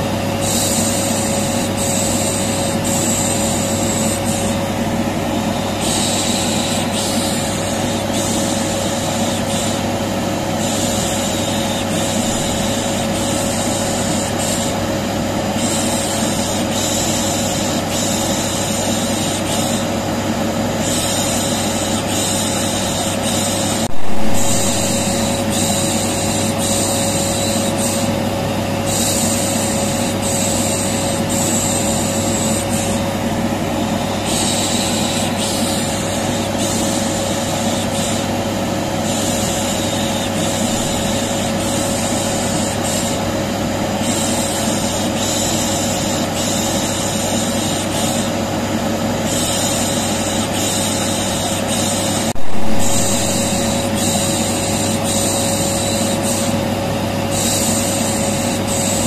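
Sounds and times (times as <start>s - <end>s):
vacuum cleaner humming: 0.0s - 59.0s.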